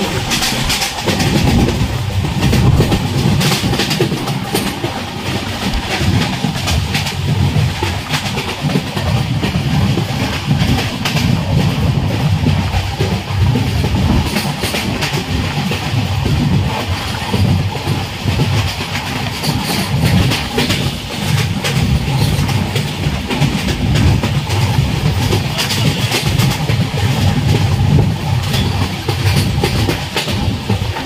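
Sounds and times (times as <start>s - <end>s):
train rumbling: 0.0s - 31.0s
wheels clattering on rails: 0.0s - 31.0s.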